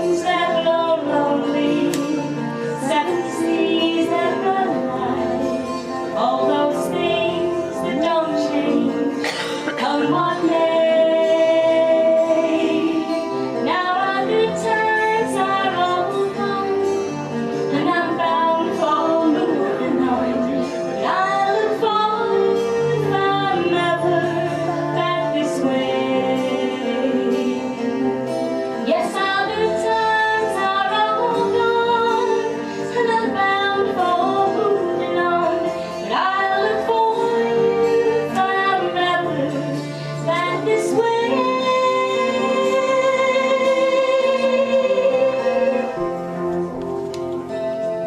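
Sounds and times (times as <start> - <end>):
woman singing: 0.0 - 46.6
live band playing: 0.0 - 48.0.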